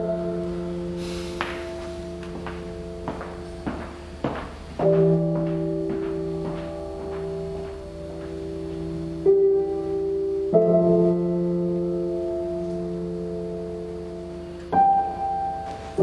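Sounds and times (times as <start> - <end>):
slow music of sustained chords: 0.0 - 4.2, 4.8 - 16.0.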